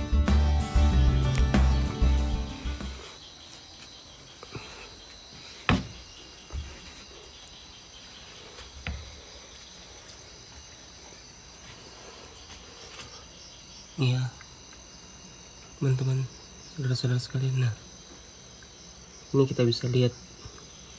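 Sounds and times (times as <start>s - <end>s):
insects chirping at night: 0.0s - 20.9s.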